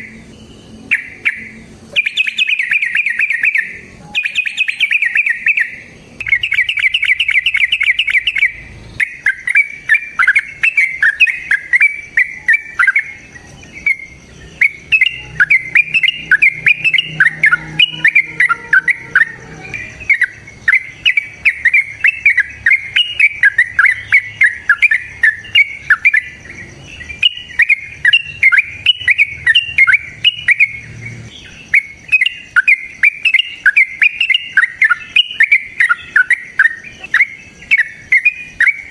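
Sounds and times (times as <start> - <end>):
bird trill: 0.0 - 38.9
lovebird chattering chirps: 0.0 - 38.9.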